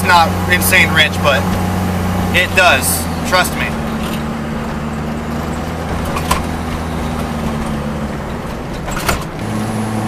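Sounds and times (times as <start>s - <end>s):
car engine droning: 0.0s - 10.0s
road noise: 0.0s - 10.0s.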